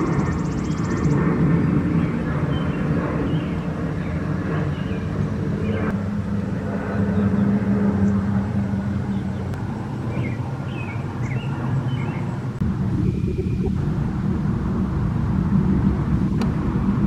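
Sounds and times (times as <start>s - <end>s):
jet engines flying overhead: 0.0s - 17.0s.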